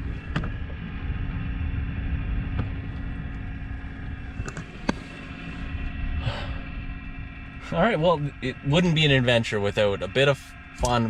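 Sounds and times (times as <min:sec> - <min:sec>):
faint steady hum: 0:00.0 - 0:11.0
gusty wind buffeting microphone: 0:00.0 - 0:11.0.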